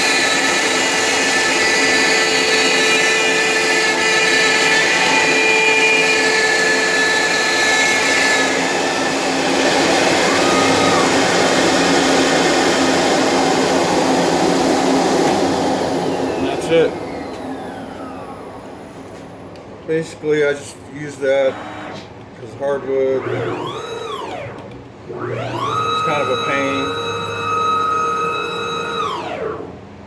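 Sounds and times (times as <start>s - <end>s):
cnc router cutting wood: 0.0s - 19.2s, 21.2s - 30.0s
spindle high whine: 0.0s - 30.0s.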